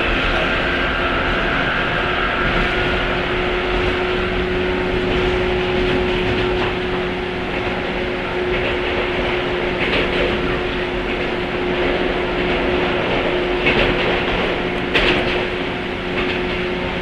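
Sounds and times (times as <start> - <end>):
train motor humming: 0.0 - 17.0
wheels rumbling on rail: 0.0 - 17.0.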